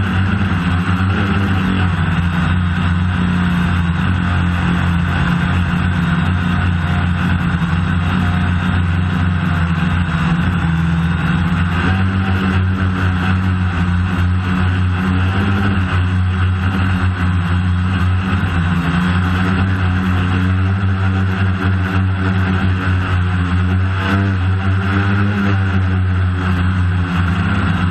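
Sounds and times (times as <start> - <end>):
drone propellers droning: 0.0 - 27.9.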